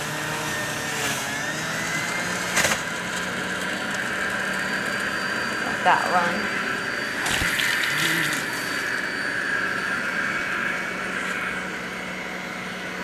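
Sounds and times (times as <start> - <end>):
juicer motor whining: 0.0 - 13.0
rough grinding noise: 0.0 - 13.0.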